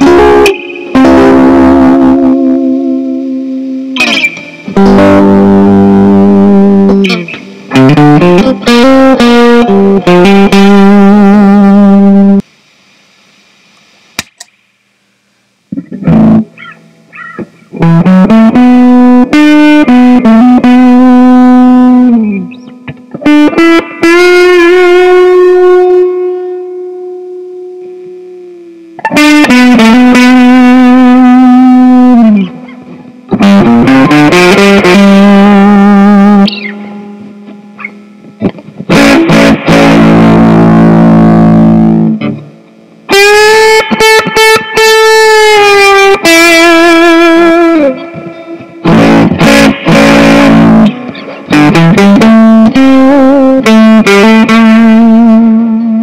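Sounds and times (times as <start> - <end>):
distorted electric guitar riff: 0.0 - 14.2, 15.5 - 56.0.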